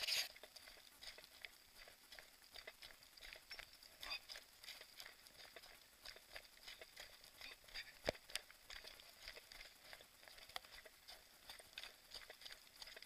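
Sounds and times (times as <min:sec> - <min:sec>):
footsteps on loose scree: 0:00.0 - 0:13.0.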